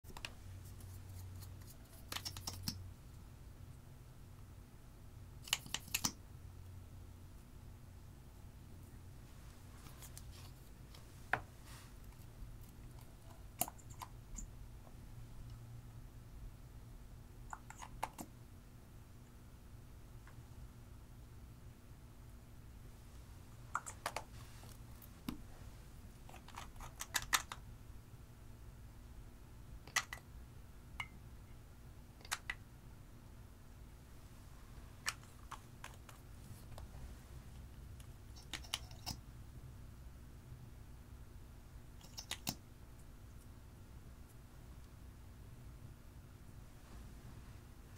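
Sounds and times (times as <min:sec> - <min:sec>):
faint low hum: 0:00.1 - 0:47.9.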